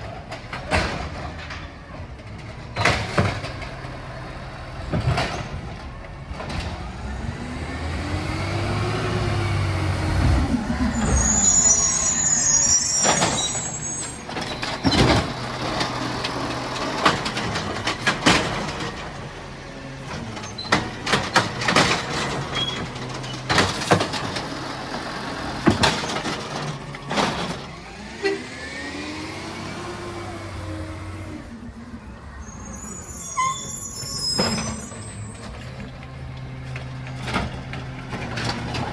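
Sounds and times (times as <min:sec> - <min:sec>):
truck engine humming: 0:03.6 - 0:38.9.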